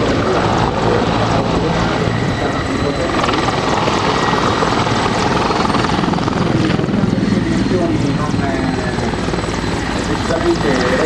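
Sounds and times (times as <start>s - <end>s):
helicopter rotor beat: 0.0s - 11.0s
turbine whine: 0.0s - 11.0s.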